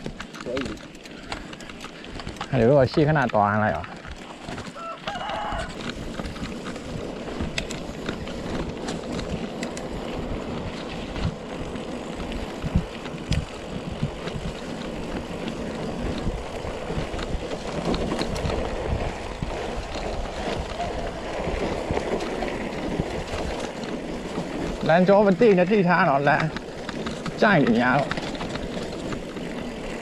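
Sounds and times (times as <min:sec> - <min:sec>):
bike clicks and knocks: 0:00.0 - 0:30.0
wind rushing over microphone: 0:04.1 - 0:30.0.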